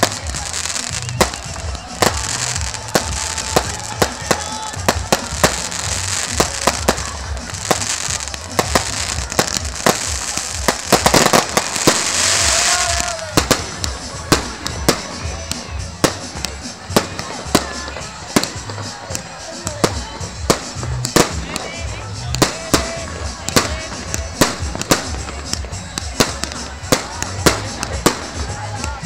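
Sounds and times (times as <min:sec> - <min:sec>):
firecrackers banging: 0:00.0 - 0:29.0
firework whistle: 0:00.0 - 0:29.0
fireworks crackling: 0:00.0 - 0:29.0.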